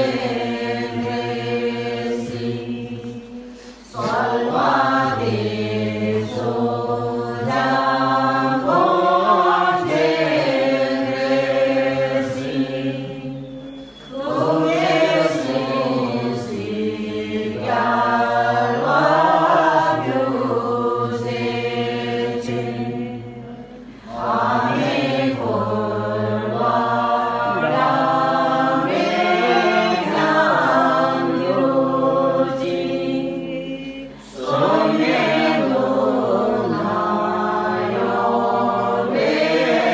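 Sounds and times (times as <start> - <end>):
women chanting in unison: 0.0 - 39.9.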